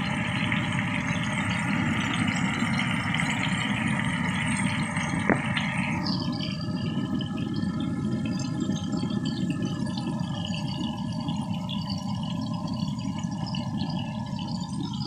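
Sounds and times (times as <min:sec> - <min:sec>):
gas burner roaring: 0:00.0 - 0:15.0
meat frying in oil: 0:00.0 - 0:15.0.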